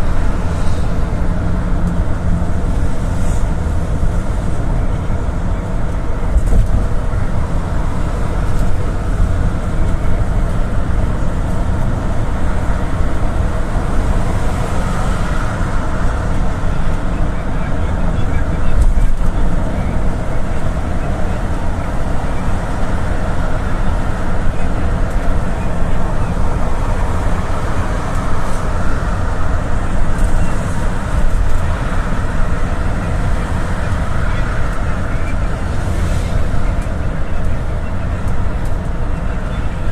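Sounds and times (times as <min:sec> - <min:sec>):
minibus engine rumble: 0:00.0 - 0:39.9
road noise: 0:00.0 - 0:39.9.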